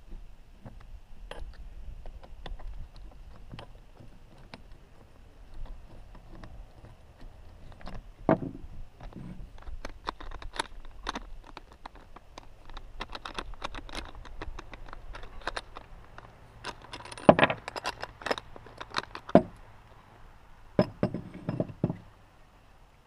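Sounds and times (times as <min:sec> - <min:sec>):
metal parts clicking and rattling: 0:01.3 - 0:19.6, 0:20.8 - 0:22.0.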